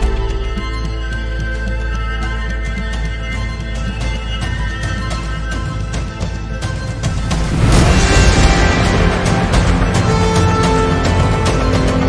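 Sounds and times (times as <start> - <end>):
soundtrack music with deep bass: 0.0 - 12.0.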